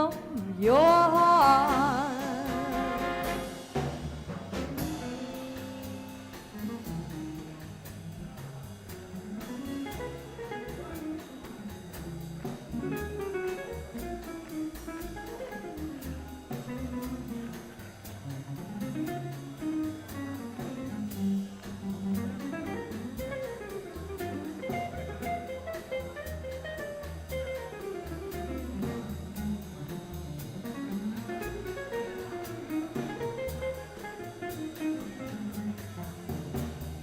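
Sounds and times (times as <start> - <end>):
drum kit cymbal taps: 0.0 - 37.0
guitar: 0.0 - 37.0
upright bass: 0.0 - 37.0.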